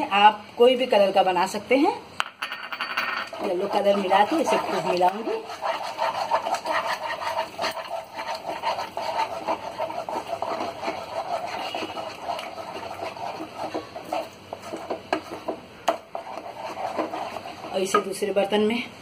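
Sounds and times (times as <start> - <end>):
wooden spoon stirring thick paste: 3.2 - 18.8.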